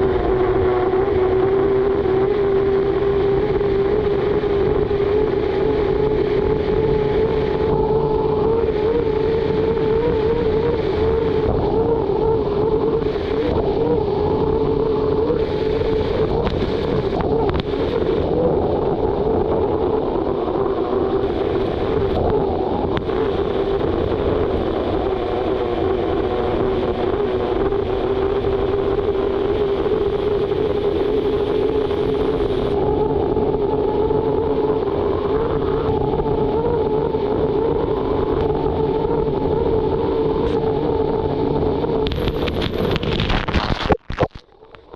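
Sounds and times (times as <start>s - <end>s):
turbine engine whine: 0.0s - 44.9s
wind and water rushing: 0.0s - 44.9s.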